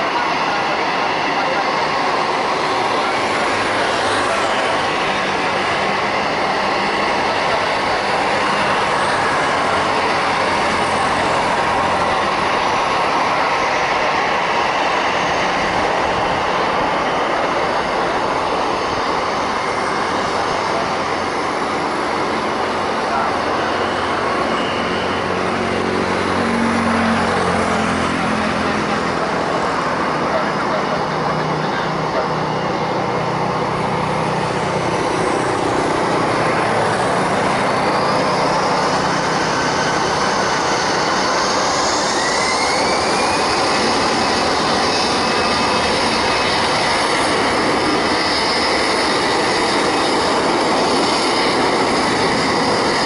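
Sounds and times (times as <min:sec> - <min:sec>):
loud engine roar: 0:00.0 - 0:53.0.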